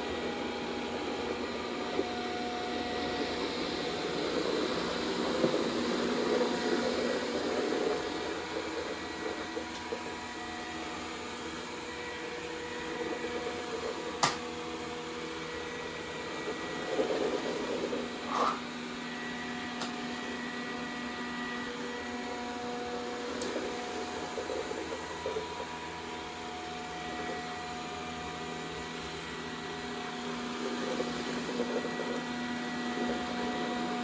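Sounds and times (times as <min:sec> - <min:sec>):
robot vacuum motor hum: 0:00.0 - 0:34.0.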